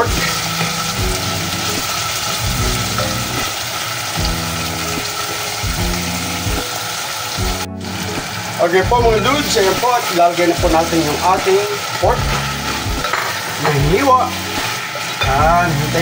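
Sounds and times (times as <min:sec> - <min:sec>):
background music with low notes: 0:00.0 - 0:16.0
vegetables sizzling in oil: 0:00.0 - 0:16.0.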